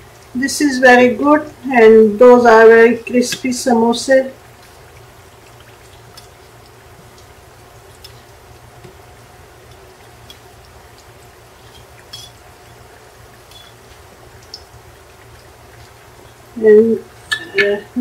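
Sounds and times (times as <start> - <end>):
oil bubbling while deep-frying: 0.0 - 18.0
small crackles and pops: 3.0 - 18.0.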